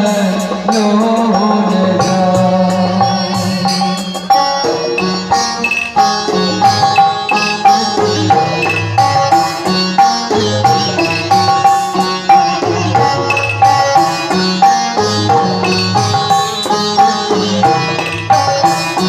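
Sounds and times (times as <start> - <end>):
drums: 0.0 - 19.0
plucked-string melody: 0.0 - 19.0.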